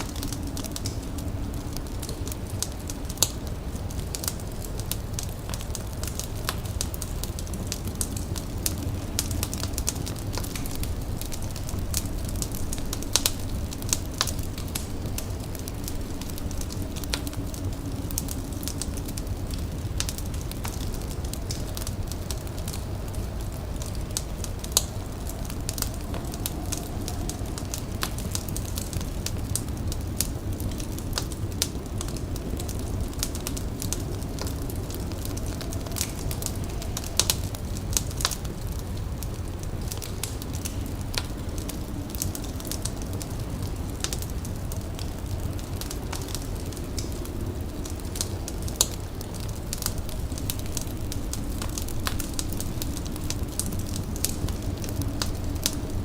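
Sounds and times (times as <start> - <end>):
fire crackling: 0.0 - 56.0
low rumble: 0.0 - 56.0.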